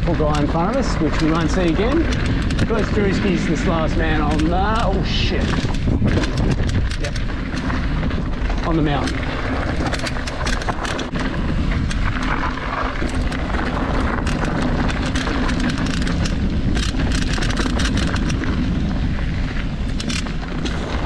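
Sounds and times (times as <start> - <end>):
bike clicks and rattles: 0.0 - 21.0
wind and tyre noise: 0.0 - 21.0.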